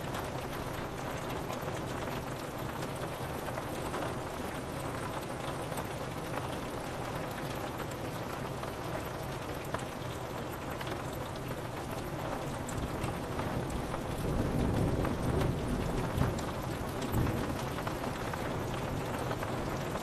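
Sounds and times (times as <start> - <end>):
rain pattering on window: 0.0 - 20.0.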